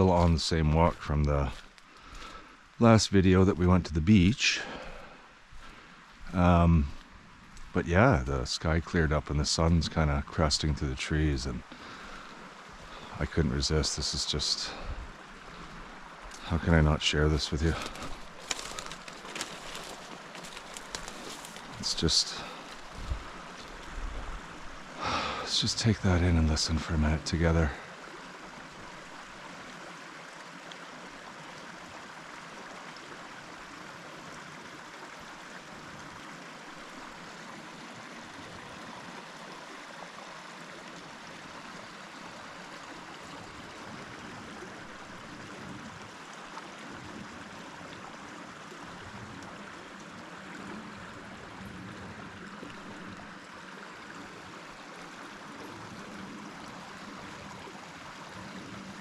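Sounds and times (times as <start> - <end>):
running stream rushing: 0.0 - 59.0.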